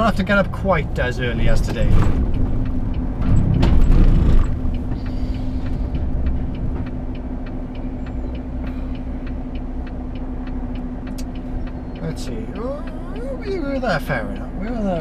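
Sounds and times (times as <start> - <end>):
light regular ticking: 0.0 - 15.0
lorry engine hum: 0.0 - 15.0.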